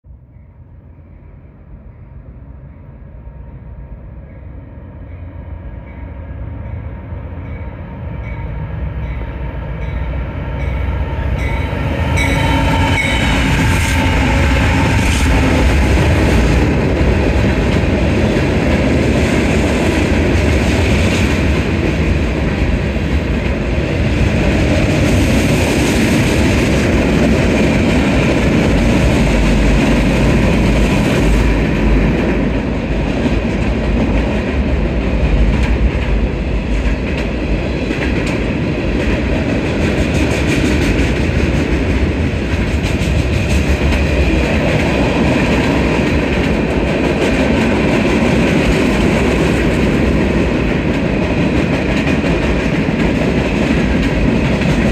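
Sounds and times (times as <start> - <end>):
diesel locomotives: 0.0 - 54.9
train wheels rumbling on rail: 0.1 - 54.9.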